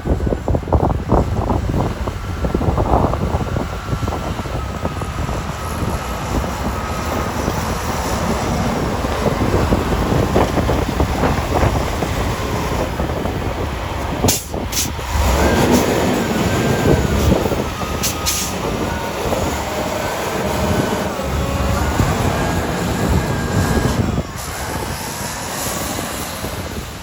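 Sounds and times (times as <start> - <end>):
snowplow machinery rumbling: 0.0 - 27.0.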